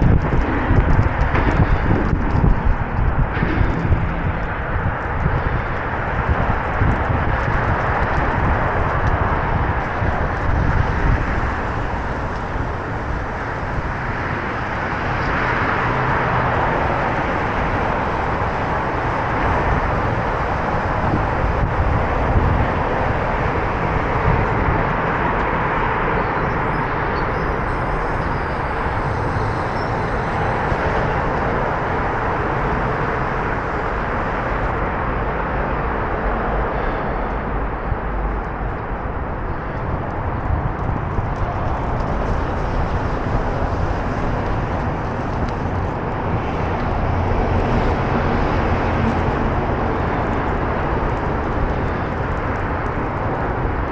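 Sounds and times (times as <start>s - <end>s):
steady rushing noise: 0.0s - 53.9s
wind buffeting microphone: 0.0s - 53.9s.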